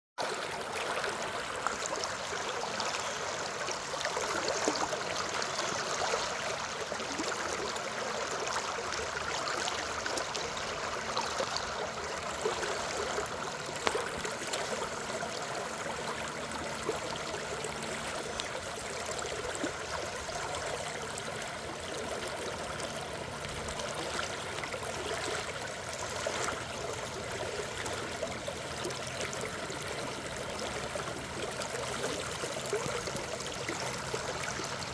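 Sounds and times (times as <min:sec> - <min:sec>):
stream water flowing and splashing: 0:00.2 - 0:34.9.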